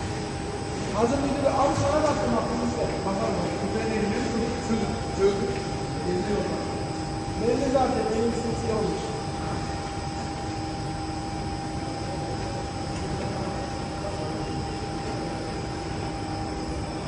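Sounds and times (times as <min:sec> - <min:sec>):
machine humming and whining: 0:00.0 - 0:17.0.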